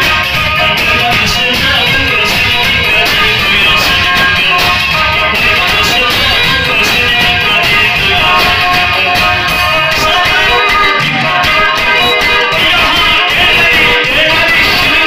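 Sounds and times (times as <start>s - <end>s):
band beat: 0.0s - 15.0s
plucked strings: 0.0s - 15.0s.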